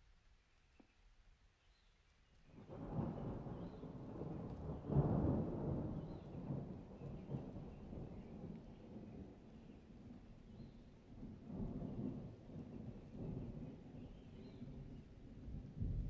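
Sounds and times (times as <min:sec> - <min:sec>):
thunder rumbling: 0:02.6 - 0:16.0.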